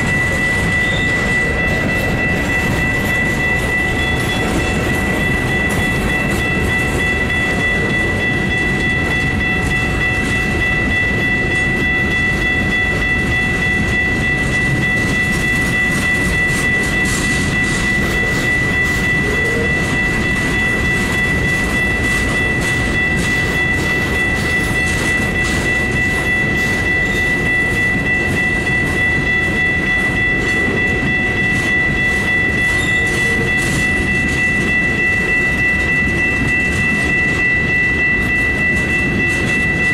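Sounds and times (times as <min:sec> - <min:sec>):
freight train wheels clicking: 0:00.0 - 0:39.9
high-pitched ringing tone: 0:00.0 - 0:39.9.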